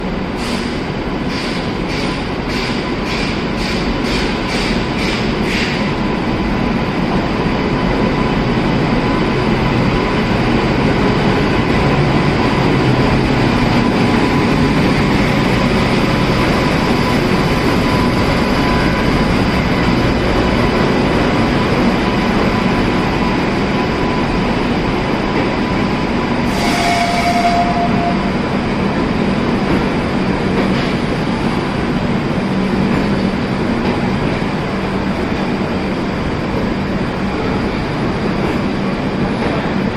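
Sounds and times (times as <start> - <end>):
train coaches rumbling on rails: 0.0 - 39.9.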